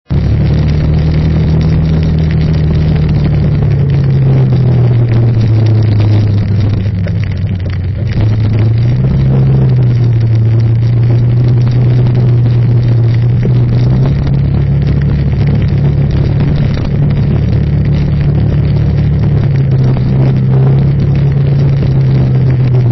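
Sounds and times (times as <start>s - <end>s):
road and wind noise: 0.0s - 22.9s
vehicle engine running: 0.0s - 22.9s.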